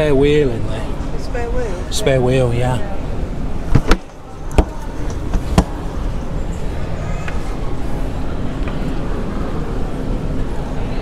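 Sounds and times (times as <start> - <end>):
show hall background noise: 0.0 - 11.0.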